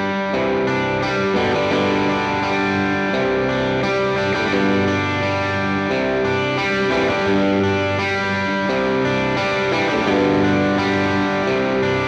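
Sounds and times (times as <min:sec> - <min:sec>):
overdriven electric guitar chords: 0:00.0 - 0:12.0.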